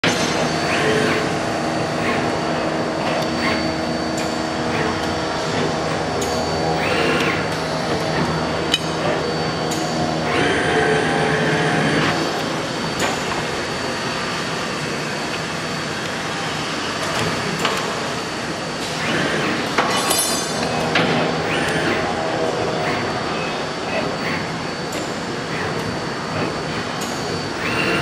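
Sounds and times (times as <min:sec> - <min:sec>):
machine hissing or whirring: 0:00.0 - 0:28.0
tube-bending machine humming: 0:00.0 - 0:28.0.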